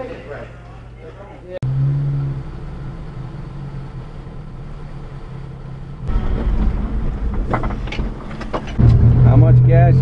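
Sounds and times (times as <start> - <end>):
road noise: 1.6 - 10.0
truck rumbling under way: 1.6 - 10.0.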